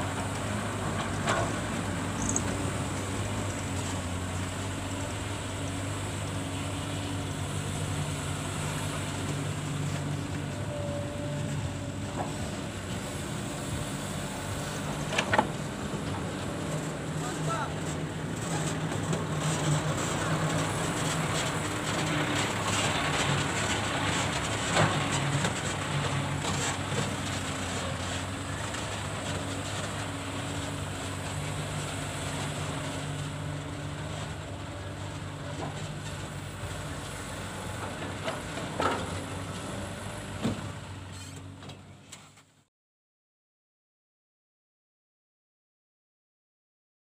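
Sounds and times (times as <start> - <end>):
diesel engines running: 0.0 - 42.5.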